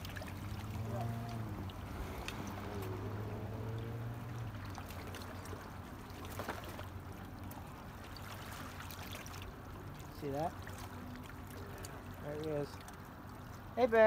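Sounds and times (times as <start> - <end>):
low steady hum: 0.0 - 14.0
running splashing water: 0.0 - 14.0.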